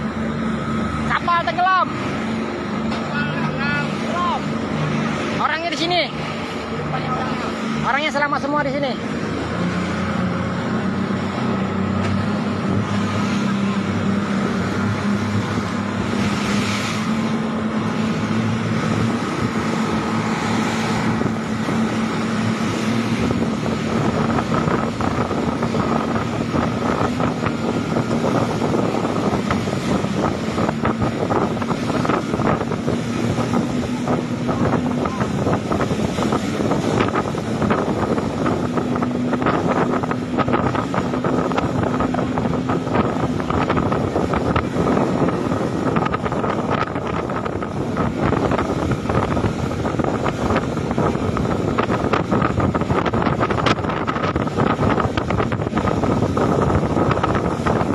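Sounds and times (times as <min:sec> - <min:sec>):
boat engine running: 0:00.0 - 0:57.9
water splashing along hull: 0:00.0 - 0:57.9
wind buffeting microphone: 0:00.0 - 0:57.9.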